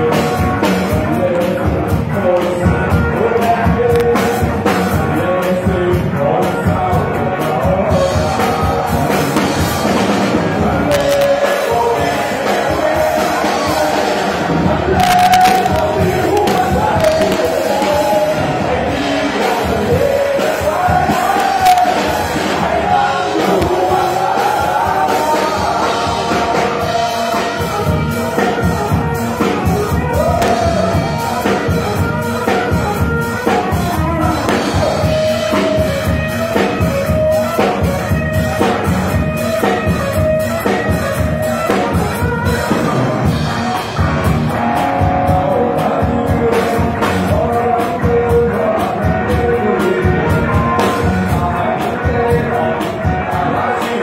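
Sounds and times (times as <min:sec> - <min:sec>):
bass guitar: 0:00.0 - 0:54.0
drum kit: 0:00.0 - 0:54.0
electric guitars: 0:00.0 - 0:54.0
person singing: 0:00.0 - 0:54.0.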